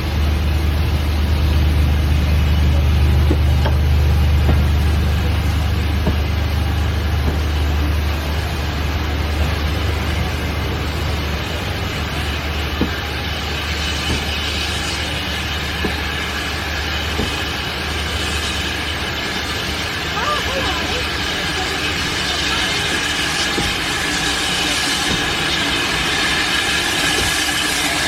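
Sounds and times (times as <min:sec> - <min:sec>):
train running on tracks: 0:00.0 - 0:28.0.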